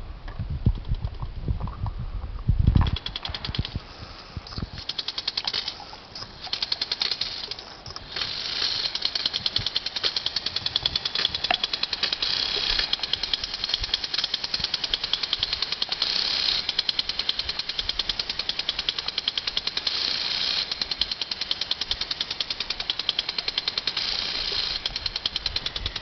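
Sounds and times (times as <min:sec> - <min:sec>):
lawn sprinkler ticking: 0:02.8 - 0:26.0
water spray hiss: 0:03.0 - 0:26.0.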